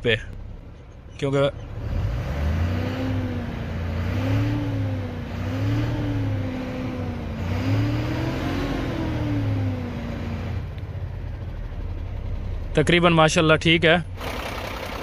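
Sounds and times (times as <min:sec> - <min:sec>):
diesel engine revving: 0:00.0 - 0:15.0.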